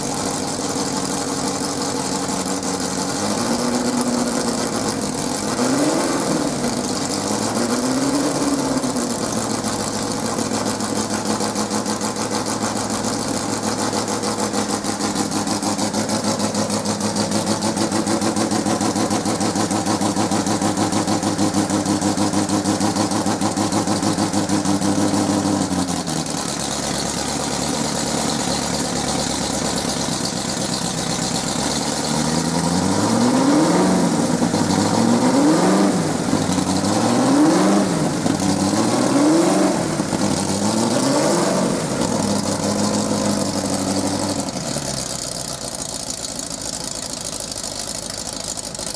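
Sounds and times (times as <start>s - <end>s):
car engine revving and idling: 0.0s - 48.9s.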